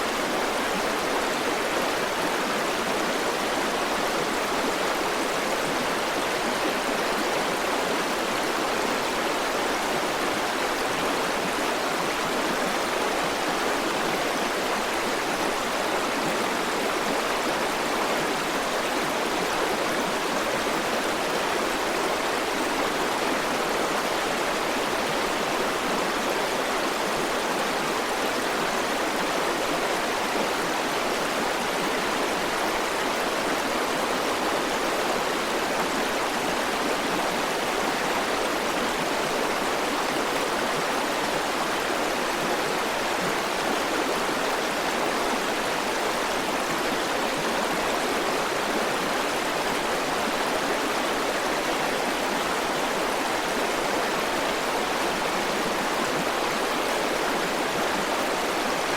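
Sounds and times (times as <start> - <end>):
river water rushing over rocks: 0.0 - 58.9.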